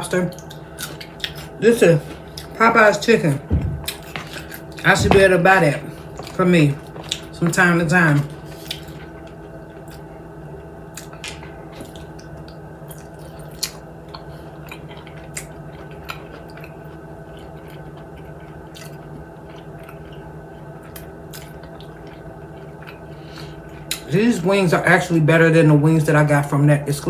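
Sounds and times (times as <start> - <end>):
steady low hum: 0.0 - 27.0
wet chewing sounds: 0.3 - 2.6, 3.3 - 24.1.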